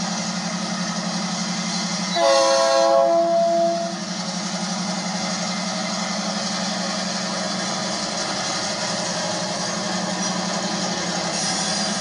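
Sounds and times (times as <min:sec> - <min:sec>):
diesel locomotive engine droning: 0:00.0 - 0:12.0
rushing noise of passing train: 0:00.0 - 0:12.0.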